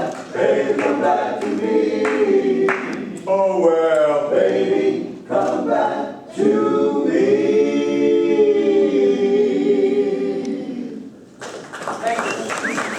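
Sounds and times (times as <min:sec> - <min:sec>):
male a cappella group singing: 0:00.0 - 0:11.2.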